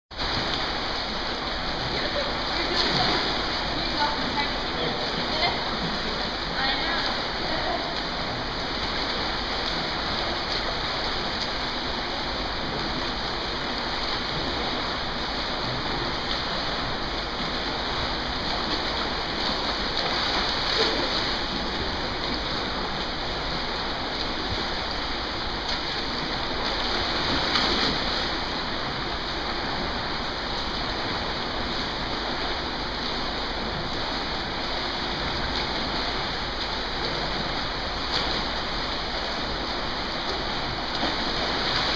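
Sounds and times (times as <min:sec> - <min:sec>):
swimmers splashing water: 0:00.1 - 0:41.9.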